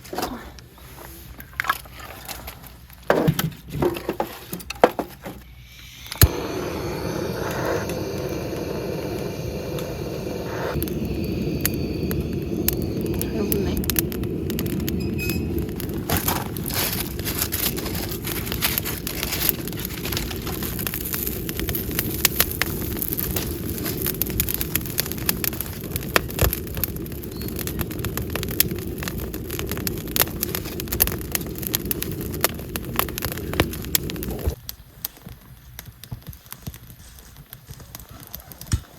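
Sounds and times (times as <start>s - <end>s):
low rush of flame: 5.6s - 37.5s
campfire crackling and popping: 5.6s - 38.9s.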